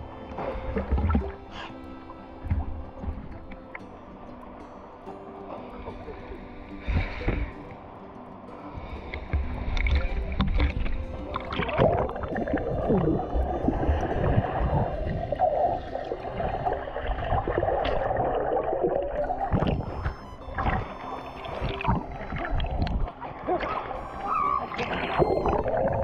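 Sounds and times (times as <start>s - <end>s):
water sloshing and splashing: 0.0s - 26.0s.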